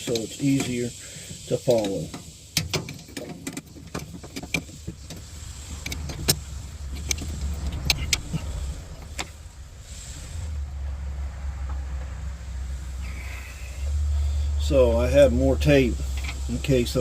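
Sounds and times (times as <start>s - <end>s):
brief hiss: 0.0s - 14.6s
low steady rumble: 0.0s - 17.0s.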